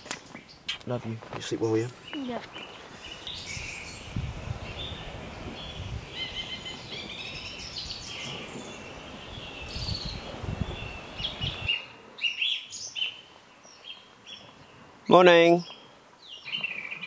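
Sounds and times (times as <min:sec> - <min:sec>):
birds chirping and whistling: 0:02.0 - 0:14.8, 0:15.6 - 0:17.0.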